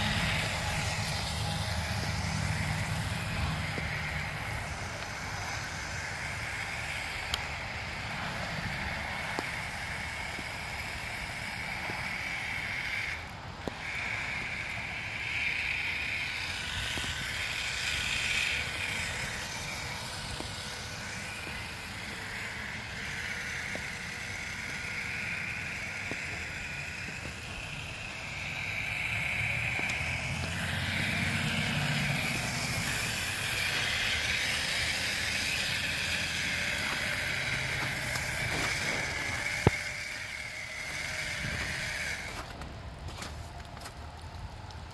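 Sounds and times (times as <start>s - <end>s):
toy car motor whining: 0.0s - 44.6s.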